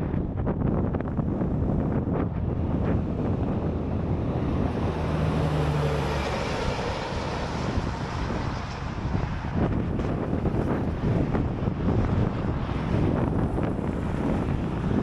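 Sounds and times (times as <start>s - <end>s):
wind buffeting microphone: 0.0s - 15.0s
vehicle passing on highway: 0.1s - 15.0s.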